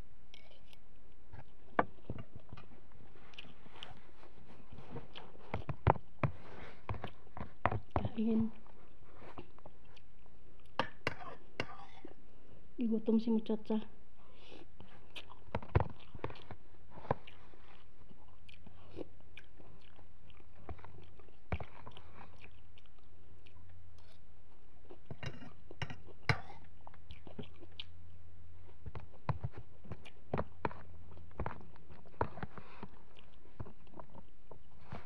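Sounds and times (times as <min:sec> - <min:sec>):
person chewing food: 0:00.2 - 0:12.7, 0:14.2 - 0:35.0.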